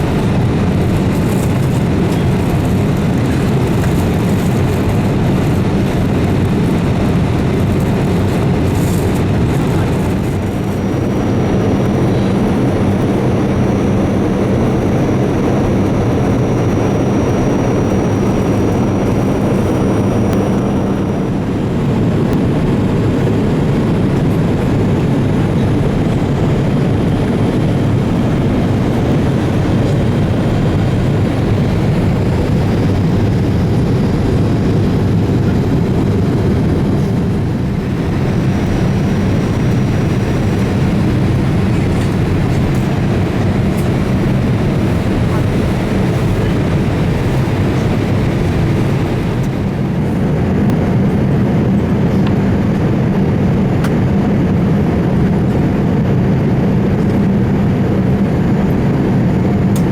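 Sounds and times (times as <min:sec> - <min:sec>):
airplane cabin engine noise: 0:00.0 - 0:59.9.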